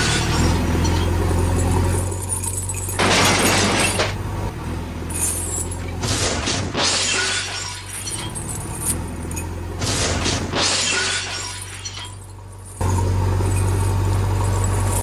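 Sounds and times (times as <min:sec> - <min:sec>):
glass shattering: 0:00.0 - 0:04.2, 0:05.0 - 0:15.0.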